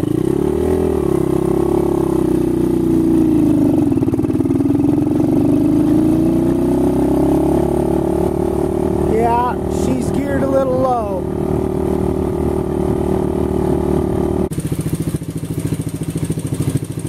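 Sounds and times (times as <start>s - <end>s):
dirt bike engine labouring and revving: 0.0s - 17.0s.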